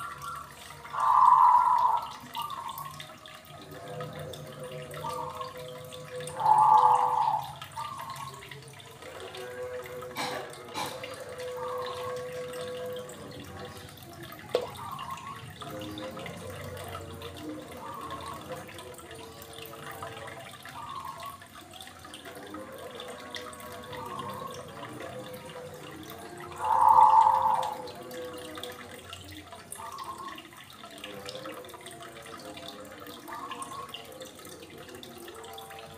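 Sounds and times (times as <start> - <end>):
aquarium water trickling: 0.0 - 35.9
water gurgling splashes: 0.0 - 35.9.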